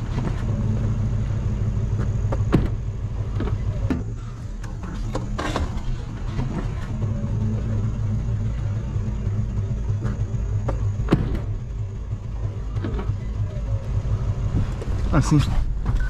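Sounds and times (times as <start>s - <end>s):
pickup truck engine rumbling: 0.0s - 16.0s.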